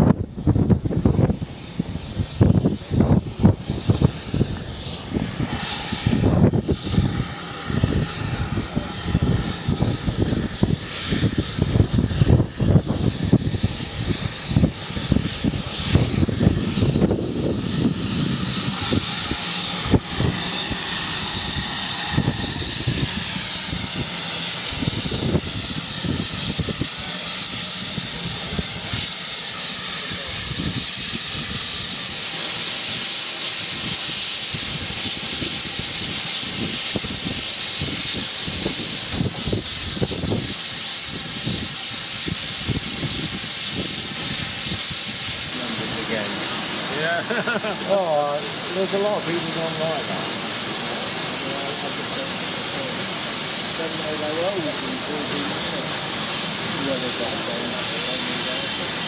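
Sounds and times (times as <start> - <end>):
steam hissing: 0.0 - 59.0
steam locomotive rumbling: 0.0 - 59.0.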